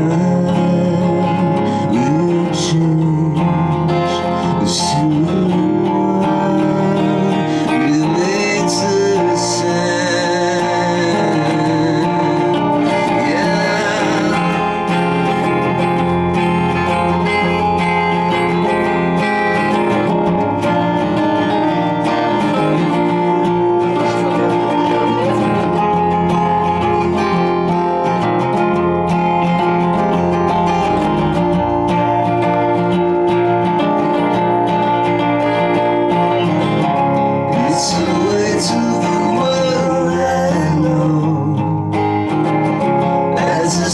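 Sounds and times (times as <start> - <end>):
person singing: 0.0 - 43.9
rock band with strummed guitars: 0.0 - 43.9.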